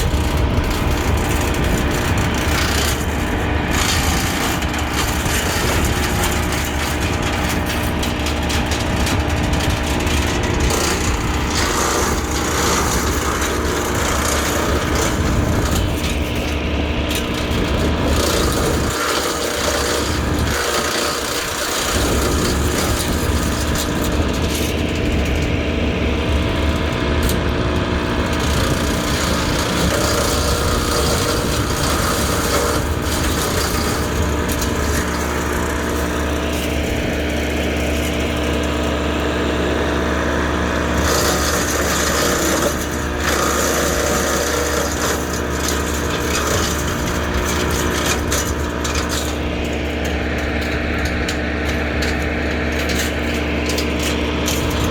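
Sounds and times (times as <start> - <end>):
wood chipper chipping branches: 0.0 - 54.9.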